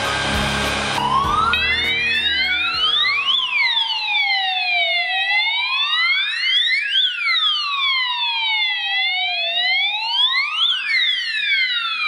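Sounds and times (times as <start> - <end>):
fire alarm siren sweeping: 0.0 - 12.0.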